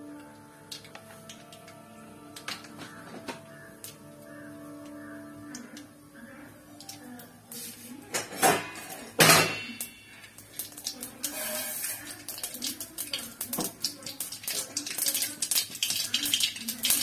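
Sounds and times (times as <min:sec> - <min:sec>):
hot oil sizzling and popping: 0:00.2 - 0:17.0.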